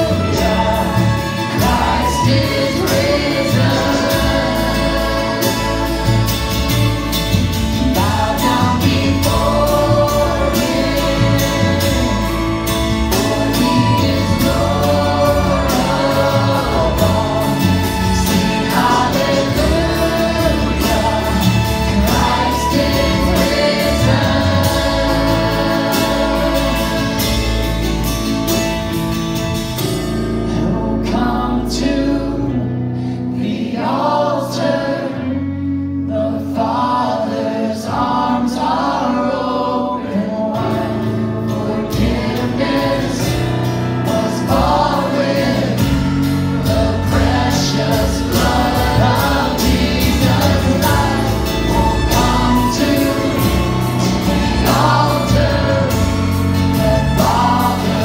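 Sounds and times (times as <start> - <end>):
drums and cymbals: 0.0 - 30.7, 40.6 - 58.0
guitar: 0.0 - 58.0.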